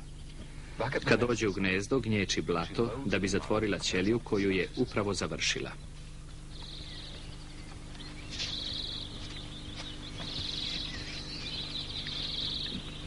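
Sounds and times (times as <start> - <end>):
nature ambience: 0.0 - 13.0
steady low hum: 0.0 - 13.0.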